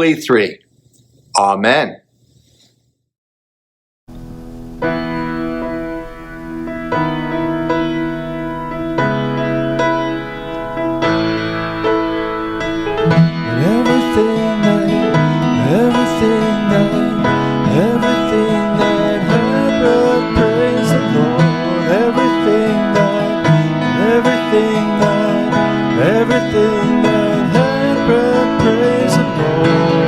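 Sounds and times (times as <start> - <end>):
sliding melody: 4.7 - 30.0.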